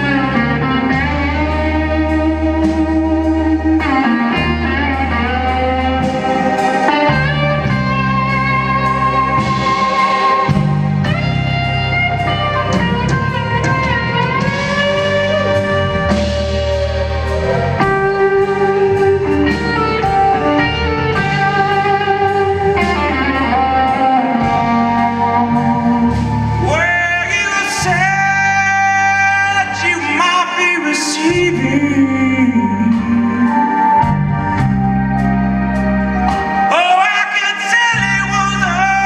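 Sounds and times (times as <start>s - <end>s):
bass and keyboard backing: 0.0s - 39.0s
electric guitar solo: 0.0s - 39.0s.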